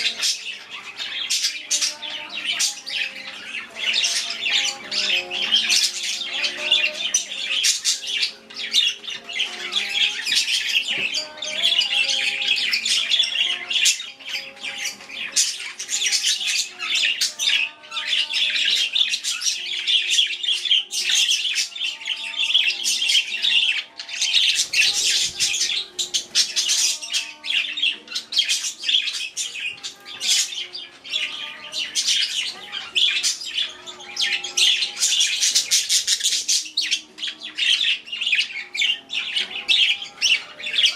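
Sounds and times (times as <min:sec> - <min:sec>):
budgerigars chattering and squawking: 0:00.0 - 0:40.9.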